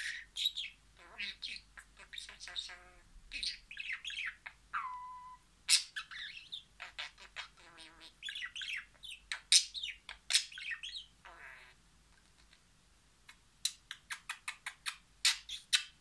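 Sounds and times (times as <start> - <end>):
budgerigar chattering: 0.0 - 12.6, 13.7 - 16.0.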